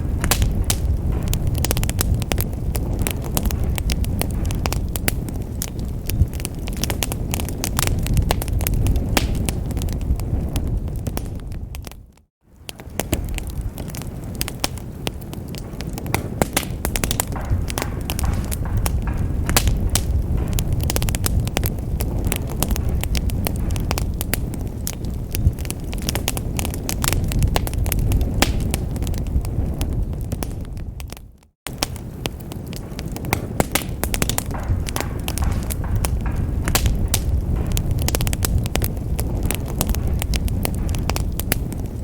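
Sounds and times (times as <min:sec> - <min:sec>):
burning logs crackling and popping: 0:00.0 - 0:42.0
fire rumbling: 0:00.0 - 0:42.0.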